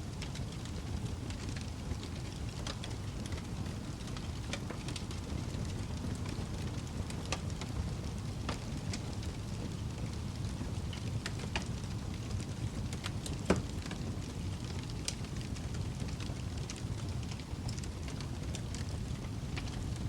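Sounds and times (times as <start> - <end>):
fire burning with low rumble: 0.0 - 20.0
wood crackling and popping: 0.0 - 20.0.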